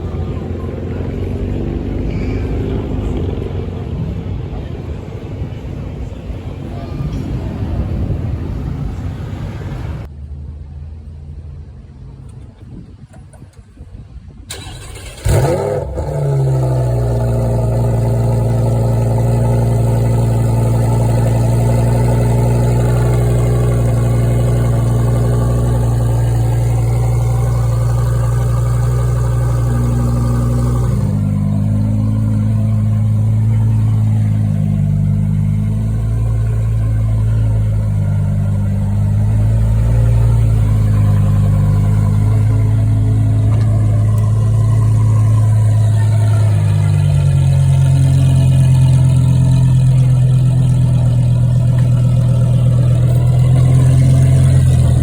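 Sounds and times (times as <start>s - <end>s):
car engine starting and idling: 0.0s - 55.0s.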